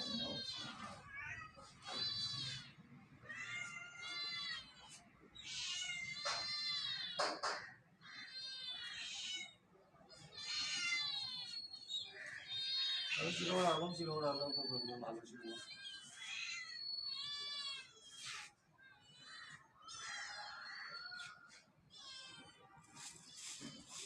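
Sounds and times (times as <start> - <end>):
kittens meowing: 0.0 - 24.0.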